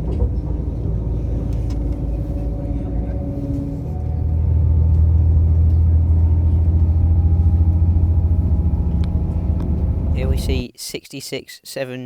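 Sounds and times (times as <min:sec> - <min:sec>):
train rumble from inside carriage: 0:00.0 - 0:10.6.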